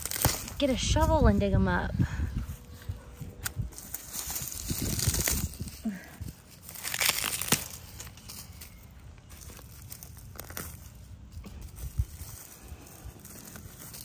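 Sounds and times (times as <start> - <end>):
dry plant stalks rustling and snapping: 0.0 - 1.4, 2.4 - 14.0.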